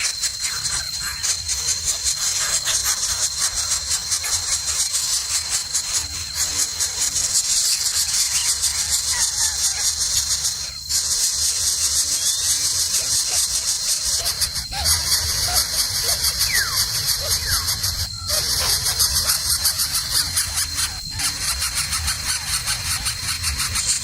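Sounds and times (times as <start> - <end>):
high-pitched hiss: 0.0 - 24.0
thin constant tone: 0.0 - 24.0.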